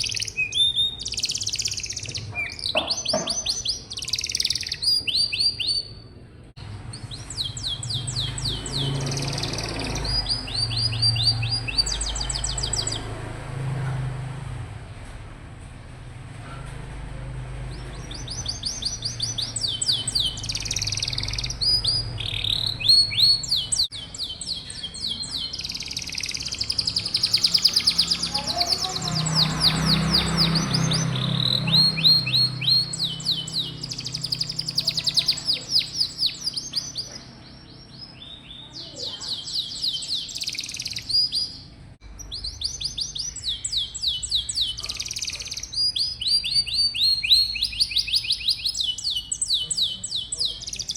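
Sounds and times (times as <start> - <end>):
canary singing trills: 0.0 - 14.3, 16.6 - 50.9.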